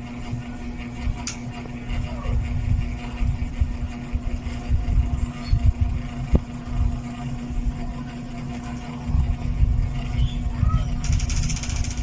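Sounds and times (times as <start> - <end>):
ceiling fan humming: 0.0 - 12.0
low rumbling: 0.3 - 12.0.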